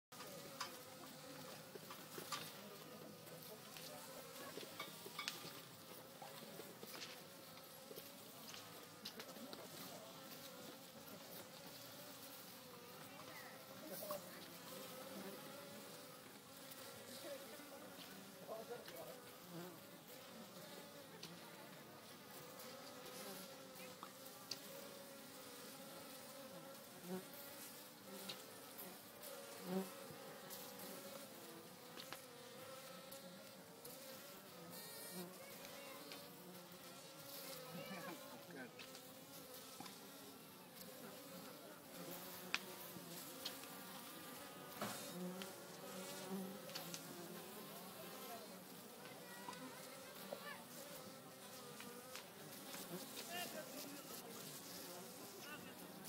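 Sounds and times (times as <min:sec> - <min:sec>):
bees buzzing: 0:10.2 - 0:56.0.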